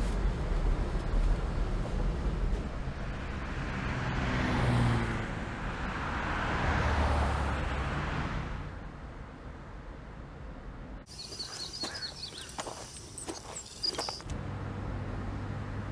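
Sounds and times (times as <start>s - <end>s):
car tyre and engine noise: 0.0s - 15.9s.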